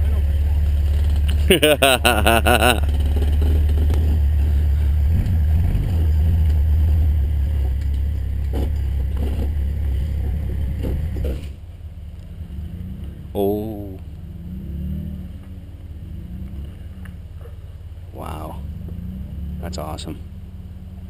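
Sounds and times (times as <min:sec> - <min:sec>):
four-wheeler engine idling: 0:00.0 - 0:14.5, 0:15.4 - 0:19.0.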